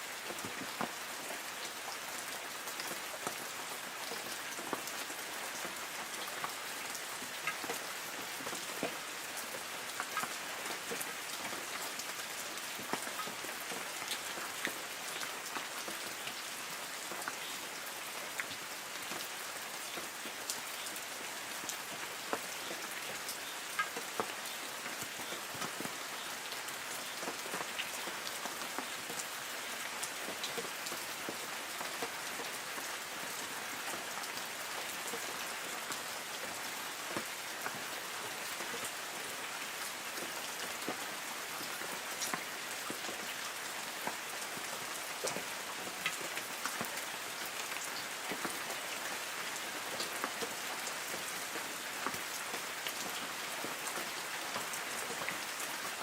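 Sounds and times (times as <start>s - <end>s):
raindrops ticking on leaves: 0.0s - 56.0s.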